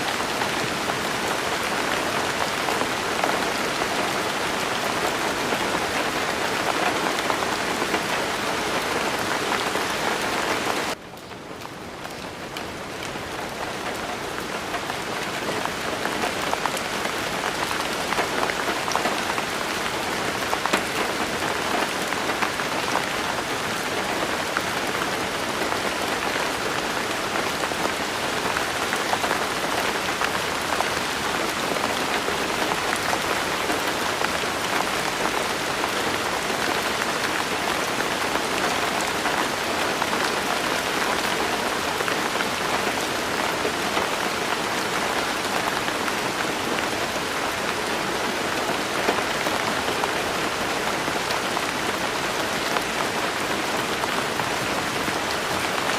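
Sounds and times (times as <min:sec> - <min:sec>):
rain falling on a surface: 0:00.0 - 0:55.9.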